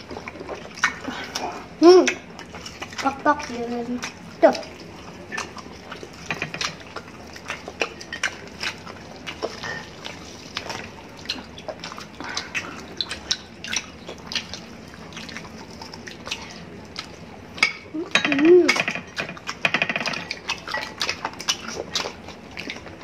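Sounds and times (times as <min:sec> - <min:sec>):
people chewing and lip smacking: 0:00.0 - 0:23.0.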